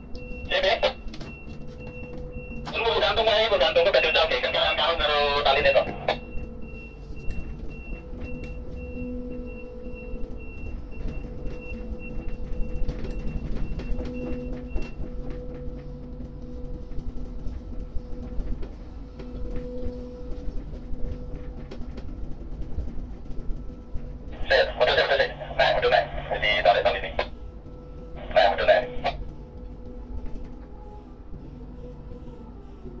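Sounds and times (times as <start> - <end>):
crane machinery humming: 0.0 - 33.0.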